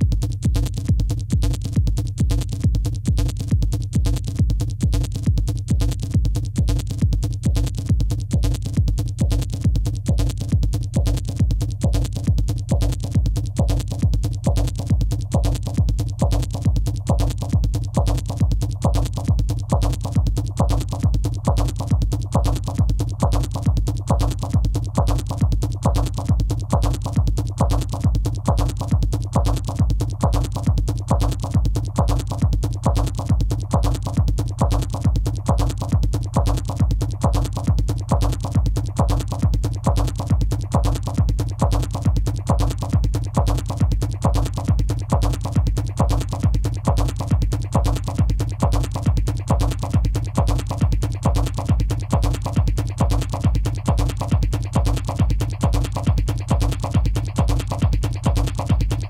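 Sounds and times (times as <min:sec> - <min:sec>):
fast ticking hi-hats: 0:00.0 - 0:59.0
kick drum: 0:00.0 - 0:59.0
sustained bass line: 0:00.0 - 0:59.0.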